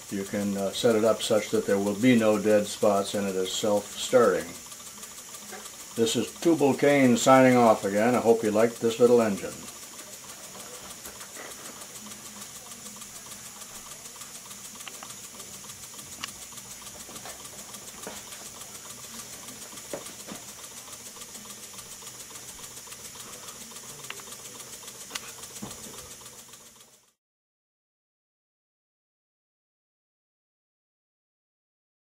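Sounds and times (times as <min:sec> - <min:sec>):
air engine hissing and pulsing: 0:00.0 - 0:27.1.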